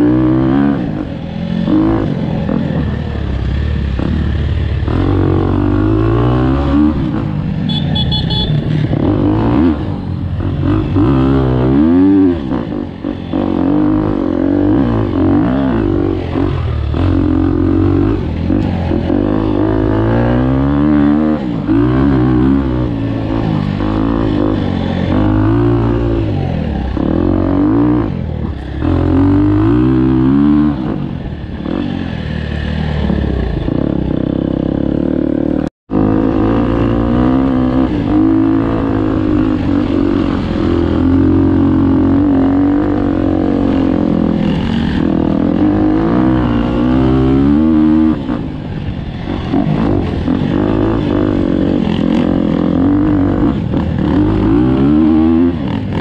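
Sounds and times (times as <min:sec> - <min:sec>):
dirt bike engine revving: 0:00.0 - 0:56.0
other dirt bikes riding: 0:00.0 - 0:56.0.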